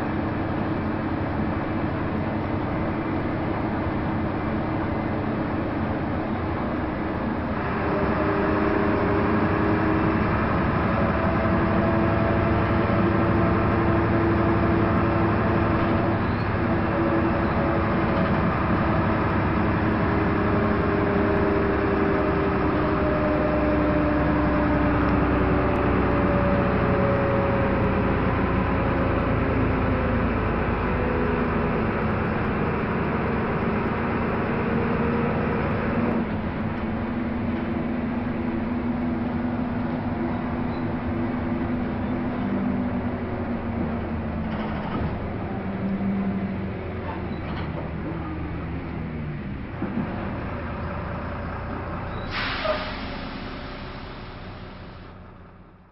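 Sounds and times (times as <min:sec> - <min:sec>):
tyre and road noise: 0:00.0 - 0:53.5
bus diesel engine running: 0:00.0 - 0:55.9.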